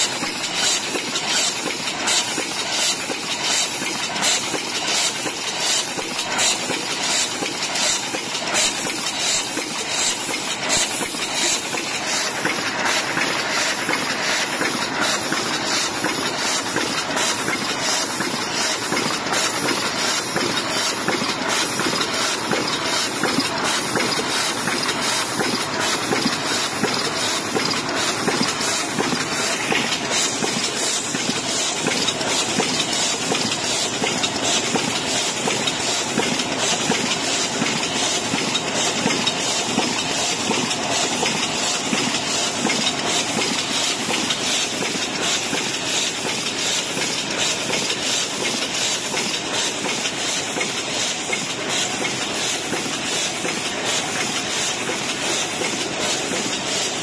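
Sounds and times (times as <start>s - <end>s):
machine rhythmic clatter: 0.0s - 57.0s.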